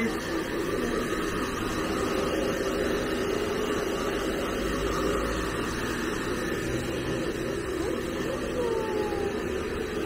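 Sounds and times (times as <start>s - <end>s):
hair dryer running: 0.0s - 10.0s.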